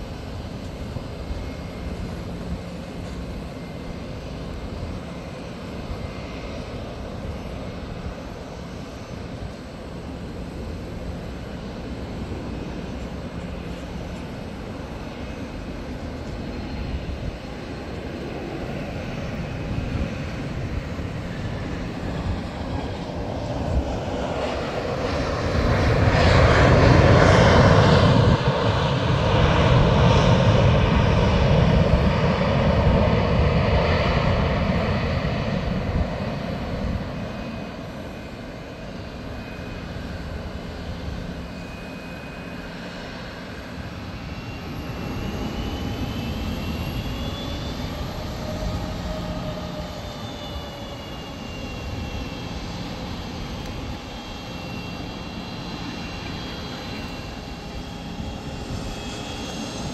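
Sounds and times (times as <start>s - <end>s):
jet engines rumbling: 0.0s - 59.9s
jet whine sliding in pitch: 11.4s - 59.9s.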